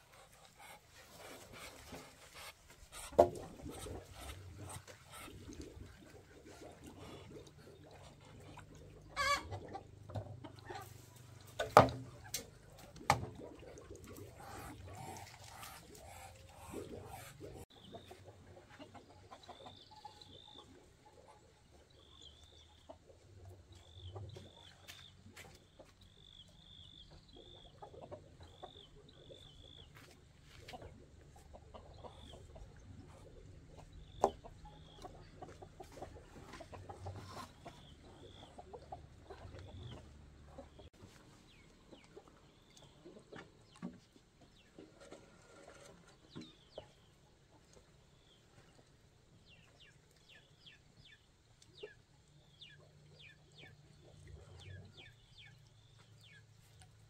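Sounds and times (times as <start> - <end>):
chickens clucking and peeping: 0.0 - 57.0.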